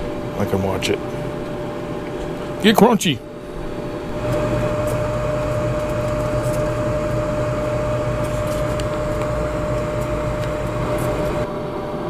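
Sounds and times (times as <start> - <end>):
air fryer fan humming and whining: 0.0 - 12.0.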